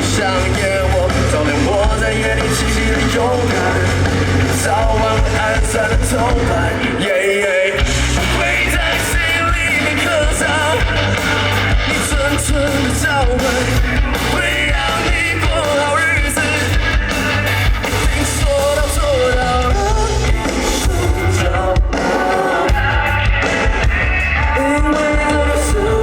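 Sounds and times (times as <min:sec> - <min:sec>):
person singing: 0:00.0 - 0:26.0
rock band playing live: 0:00.0 - 0:26.0.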